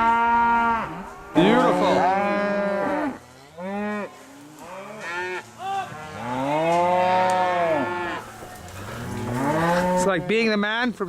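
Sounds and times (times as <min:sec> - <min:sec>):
cattle mooing and bawling: 0:00.0 - 0:10.4.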